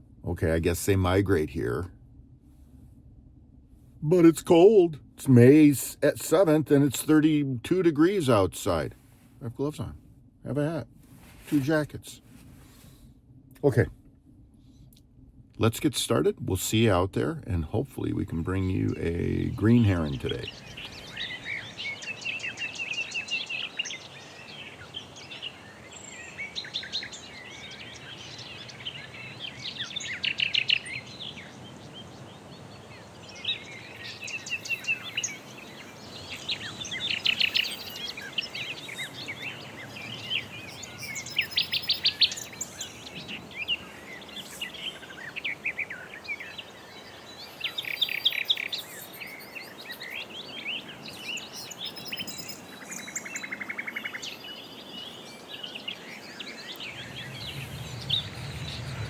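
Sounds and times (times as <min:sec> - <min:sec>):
low background rumble: 0:00.0 - 0:48.8, 0:54.4 - 0:59.0
songbirds chirping and trilling: 0:00.0 - 0:59.0.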